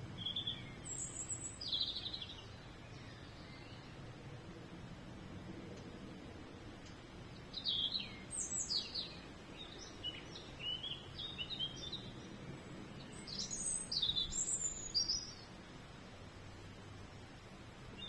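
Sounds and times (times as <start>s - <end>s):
outdoor background noise: 0.0s - 18.0s
songbird singing: 0.0s - 18.0s.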